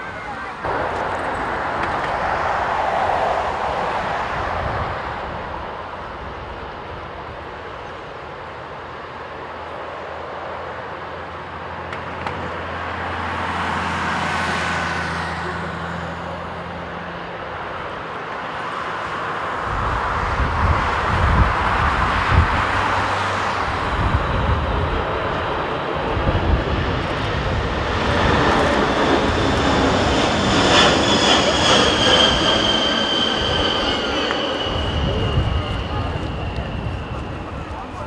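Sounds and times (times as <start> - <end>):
jet engine roar: 0.0 - 38.0.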